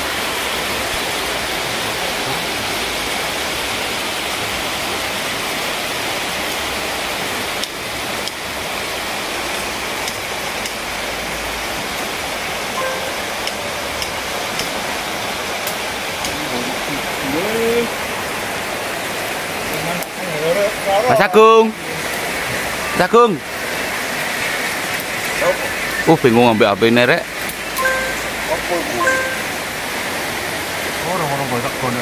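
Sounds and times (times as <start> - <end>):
stream rushing over stones: 0.0 - 32.0.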